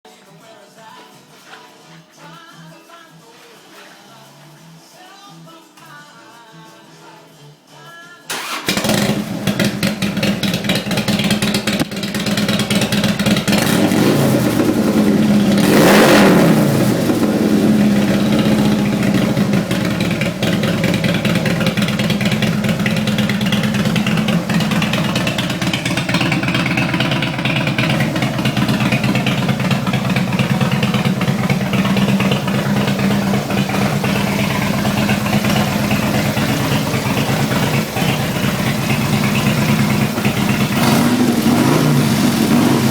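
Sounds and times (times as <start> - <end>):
motorcycle engine rumbling: 8.3 - 42.9.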